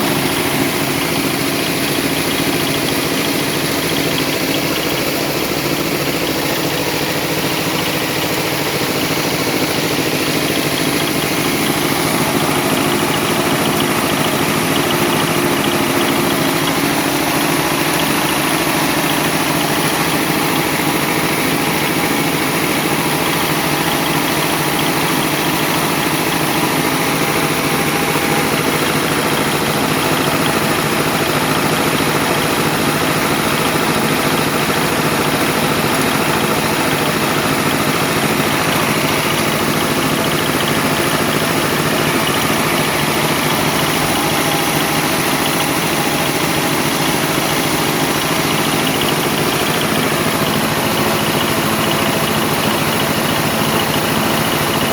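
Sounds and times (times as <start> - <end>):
engine running with fast pulsing: 0.0 - 54.9.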